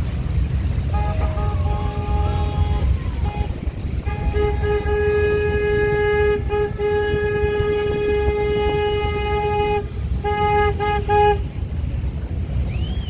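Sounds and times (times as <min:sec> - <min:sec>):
steady low rumble: 0:00.0 - 0:13.0
boat horn blasts: 0:00.6 - 0:11.9.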